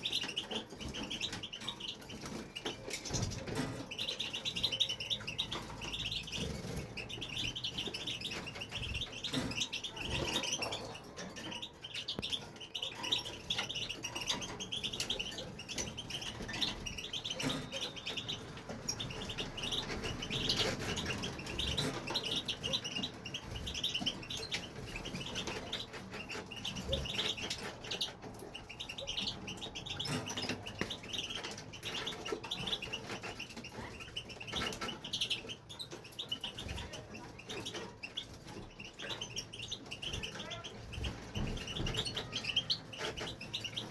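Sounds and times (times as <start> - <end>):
goldfinch twittering and chirping: 0.0 - 43.9.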